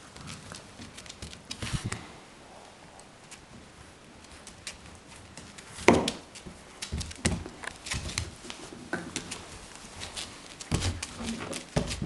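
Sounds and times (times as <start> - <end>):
puppy claws pattering on wood floor: 0.0 - 2.1, 3.0 - 12.0.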